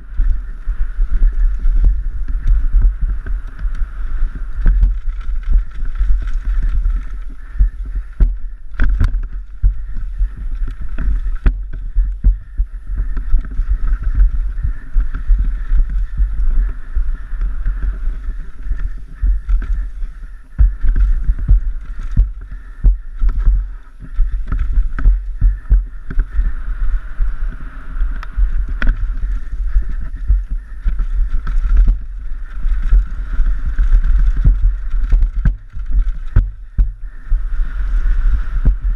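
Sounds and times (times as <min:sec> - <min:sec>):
bike tyres rolling and skidding on dirt: 0:00.0 - 0:38.9
wind rumble on microphone: 0:00.0 - 0:38.9
bike knocking and clattering: 0:00.2 - 0:16.8, 0:17.4 - 0:26.5, 0:28.0 - 0:37.2.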